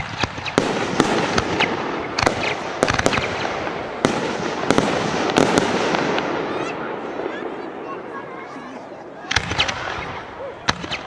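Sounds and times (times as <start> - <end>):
fireworks bangs: 0.0 - 8.5, 9.2 - 11.0
fireworks crackling: 0.0 - 11.0.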